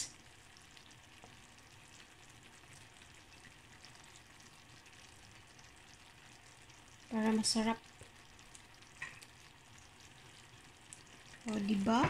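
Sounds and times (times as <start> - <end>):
meat sauce sizzling in a pan: 0.0 - 12.0.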